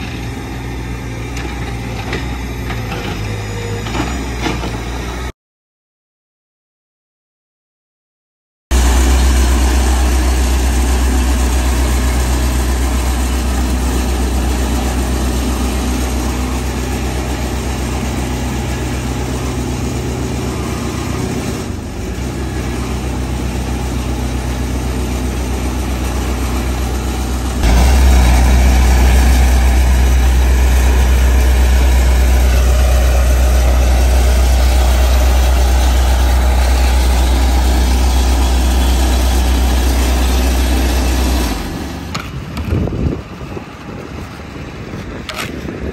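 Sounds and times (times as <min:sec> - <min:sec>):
road roller humming: 0:00.0 - 0:05.3, 0:08.7 - 0:45.9.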